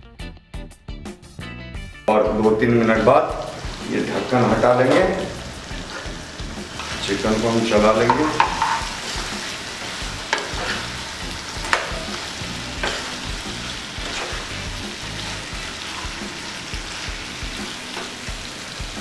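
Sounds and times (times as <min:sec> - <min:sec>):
chicken sizzling in oil: 0:02.1 - 0:19.0
spatula scraping pan: 0:02.8 - 0:18.3.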